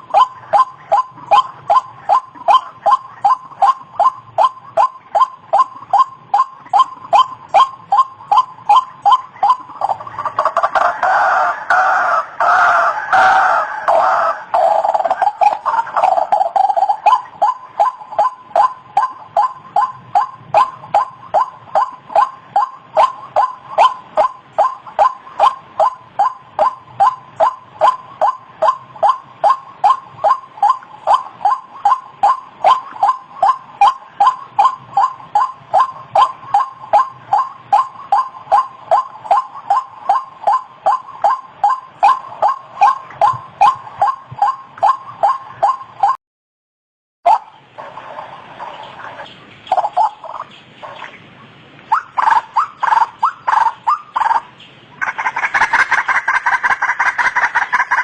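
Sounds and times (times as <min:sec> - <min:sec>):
bird calling repeated note: 0:00.0 - 0:46.2, 0:51.8 - 0:58.0.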